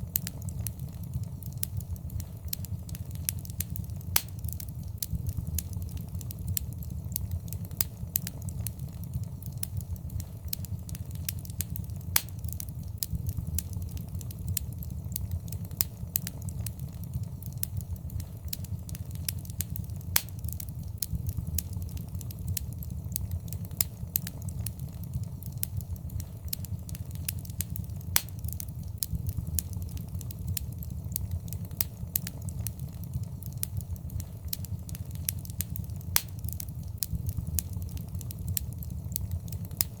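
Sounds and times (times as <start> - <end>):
fire popping: 0.0 - 40.0
rumble of flames: 0.0 - 40.0
wood fire crackling: 0.0 - 40.0.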